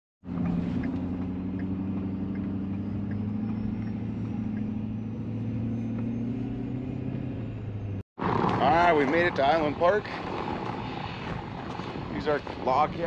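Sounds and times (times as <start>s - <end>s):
vehicle engine and road drone: 0.2s - 13.0s.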